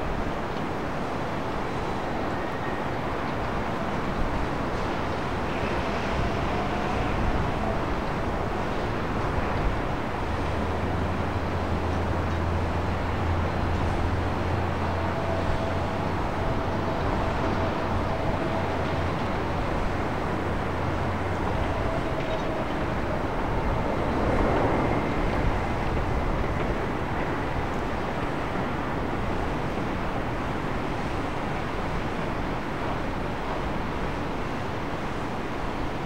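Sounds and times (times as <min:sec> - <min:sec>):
jet engine rumble: 0:03.7 - 0:36.0.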